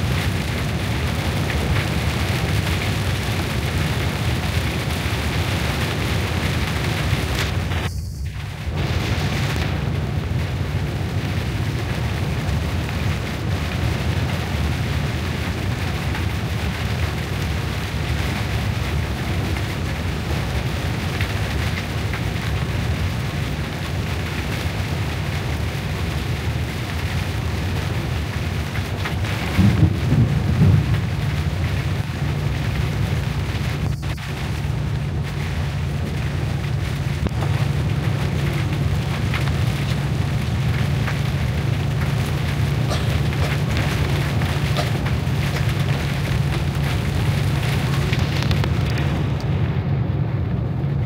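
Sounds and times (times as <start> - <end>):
rain on a windscreen: 0.0 - 51.0
road and engine rumble: 0.0 - 51.0.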